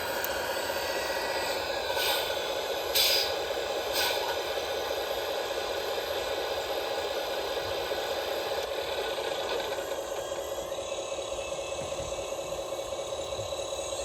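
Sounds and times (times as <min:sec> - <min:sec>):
electric motor and gearbox whine: 0:00.0 - 0:14.0.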